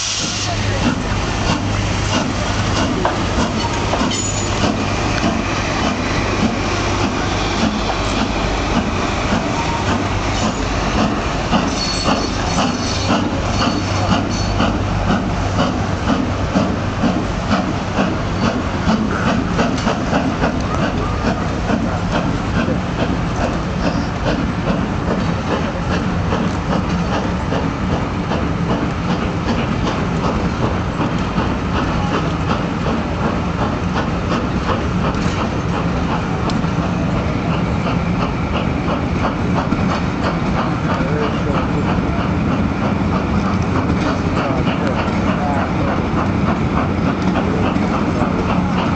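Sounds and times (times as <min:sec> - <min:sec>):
steam locomotive exhaust beats: 0:00.0 - 0:48.9
train rumble: 0:00.0 - 0:48.9
wheels clicking over rail joints: 0:07.9 - 0:48.9.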